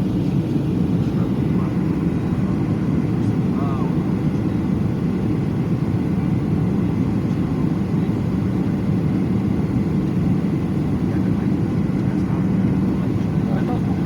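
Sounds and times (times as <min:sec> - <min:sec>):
aircraft engines rumbling: 0:00.0 - 0:14.0.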